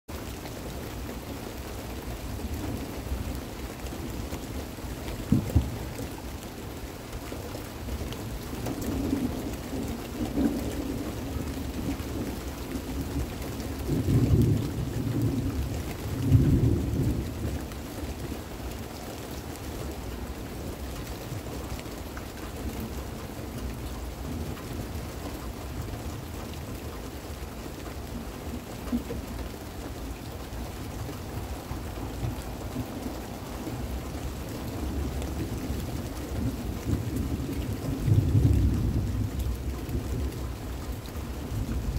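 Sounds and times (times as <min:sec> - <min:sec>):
steady rain: 0:00.1 - 0:41.9.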